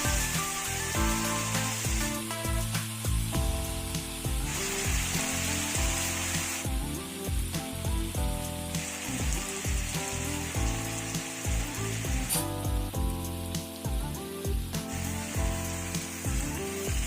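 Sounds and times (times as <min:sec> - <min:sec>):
background music with steady beat: 0:00.0 - 0:17.0
potatoes sizzling in oil: 0:00.0 - 0:17.0.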